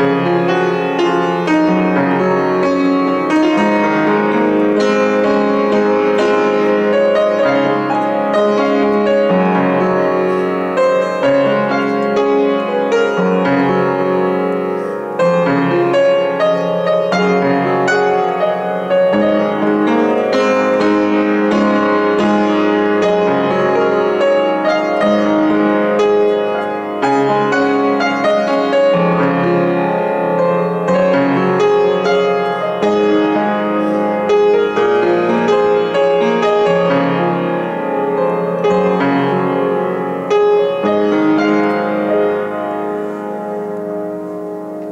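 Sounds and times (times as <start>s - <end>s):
upright piano playing: 0.0s - 44.9s.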